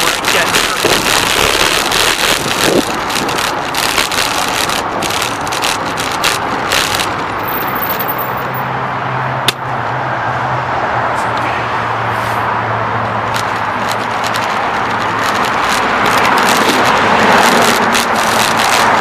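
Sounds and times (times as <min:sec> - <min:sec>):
traffic and road noise: 0:00.0 - 0:19.0.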